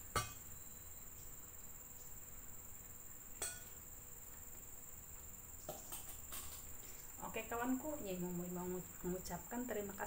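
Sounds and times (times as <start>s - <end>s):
insect chirring: 0.0s - 10.0s.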